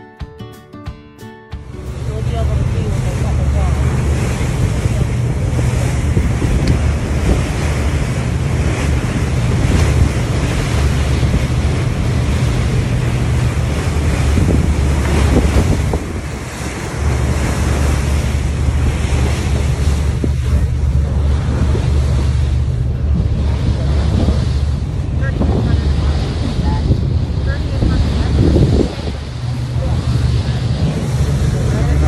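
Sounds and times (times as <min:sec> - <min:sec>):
water rushing from boat hull: 0:01.6 - 0:32.0
wind buffeting microphone: 0:01.6 - 0:32.0.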